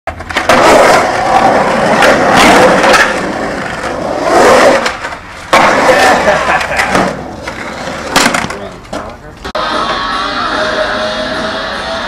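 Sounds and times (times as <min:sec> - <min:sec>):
skateboard wheels rolling: 0:00.1 - 0:12.0.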